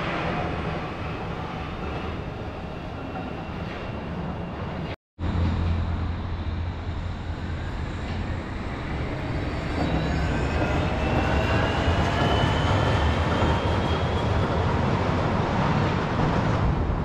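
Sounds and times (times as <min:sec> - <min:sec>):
suspended railway car rumbling: 0:00.0 - 0:17.0.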